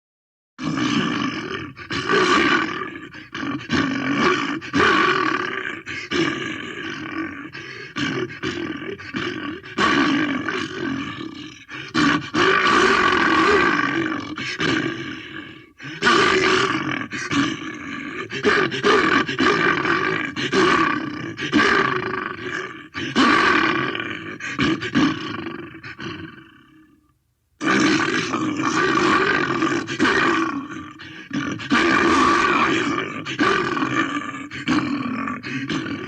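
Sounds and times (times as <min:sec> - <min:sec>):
bear growling and roaring: 0:00.6 - 0:27.0, 0:27.6 - 0:36.0.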